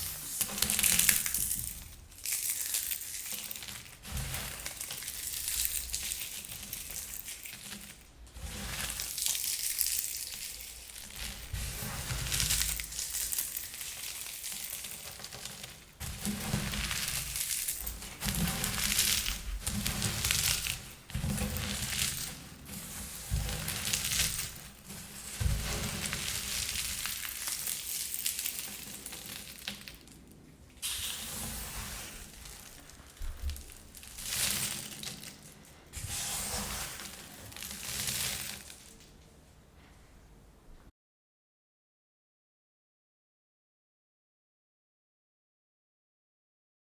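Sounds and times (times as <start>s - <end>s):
popcorn crushed by hand: 0.0s - 39.2s.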